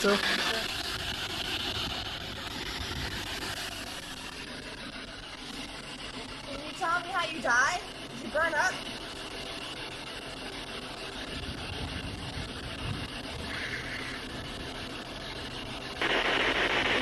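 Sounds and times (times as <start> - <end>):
rush of noise: 0.0 - 17.0.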